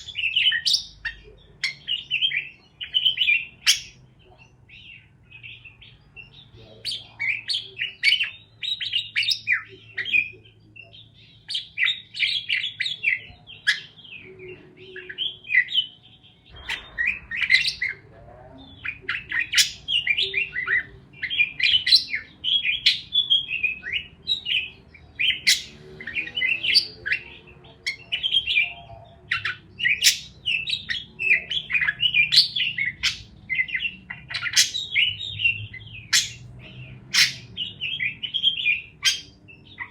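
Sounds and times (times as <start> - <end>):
parakeets chirping: 0.0 - 39.9.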